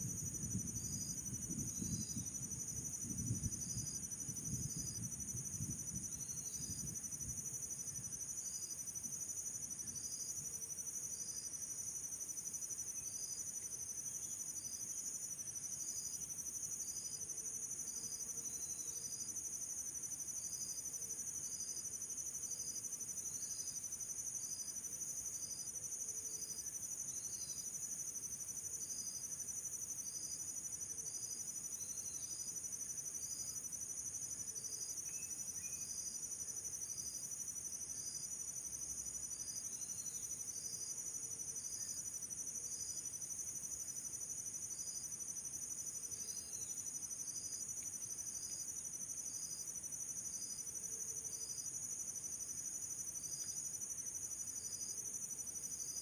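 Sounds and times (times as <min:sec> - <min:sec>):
insects chirring in trills: 0:00.0 - 0:56.0.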